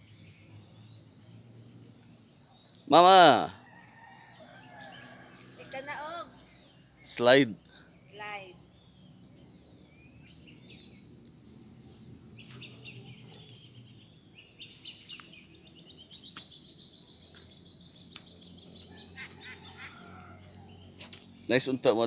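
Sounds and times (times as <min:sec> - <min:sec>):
high-pitched insect drone: 0:00.0 - 0:22.0
birds calling and chirping: 0:02.3 - 0:22.0.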